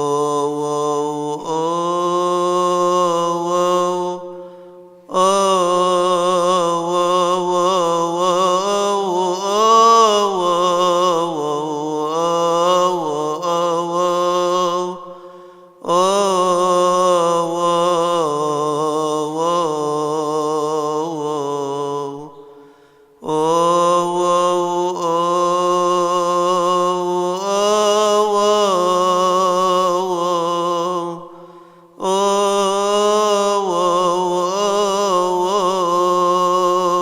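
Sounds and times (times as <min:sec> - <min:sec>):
man chanting a hymn: 0:00.0 - 0:37.0.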